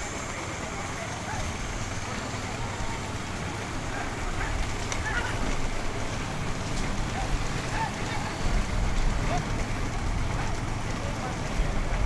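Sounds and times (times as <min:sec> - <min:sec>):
distant voices calling: 0:00.0 - 0:12.0.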